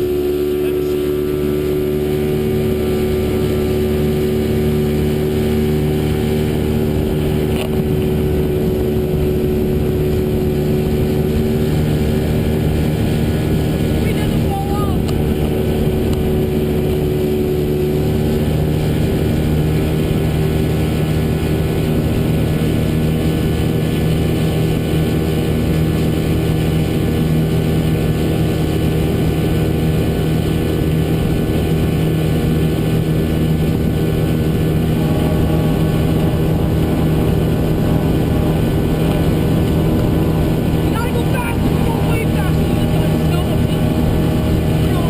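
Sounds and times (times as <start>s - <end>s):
motorboat engine droning: 0.0s - 45.0s.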